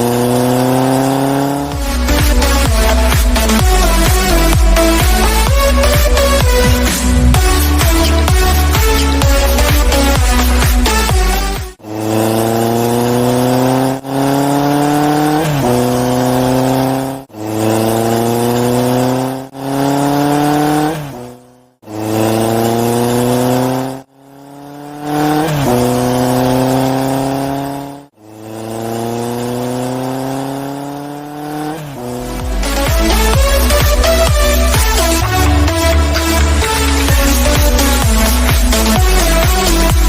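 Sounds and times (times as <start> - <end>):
race car engine accelerating: 0.0 - 40.0.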